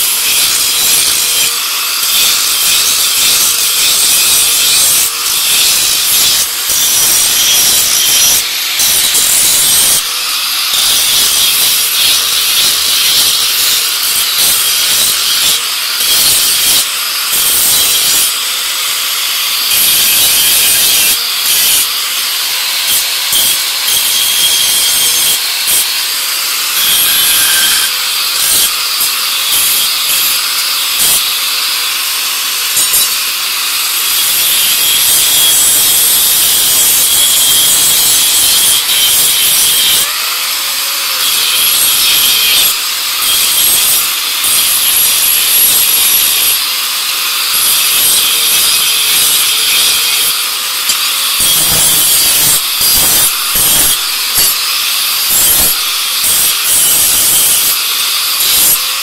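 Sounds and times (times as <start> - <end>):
angle grinder grinding steel: 0.0 - 59.0.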